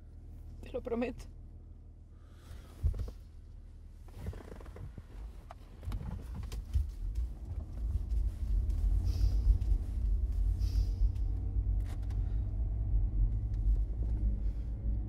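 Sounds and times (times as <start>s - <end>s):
car cabin rumble: 2.4s - 15.0s.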